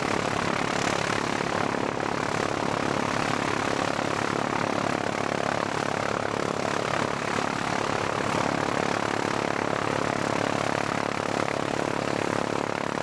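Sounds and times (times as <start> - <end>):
aircraft piston engine running: 0.0 - 13.0.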